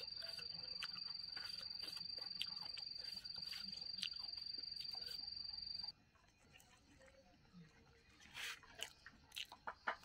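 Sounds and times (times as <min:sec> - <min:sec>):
cricket trilling: 0:00.0 - 0:08.0.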